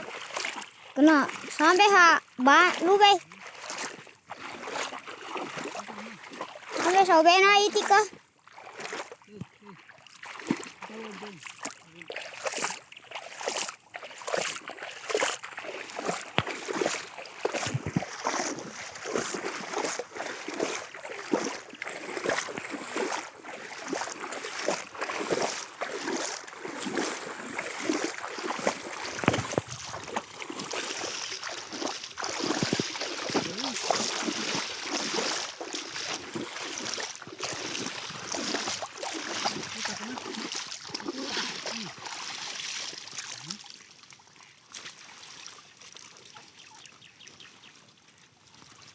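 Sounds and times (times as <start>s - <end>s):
river water splashing: 0.0s - 48.9s.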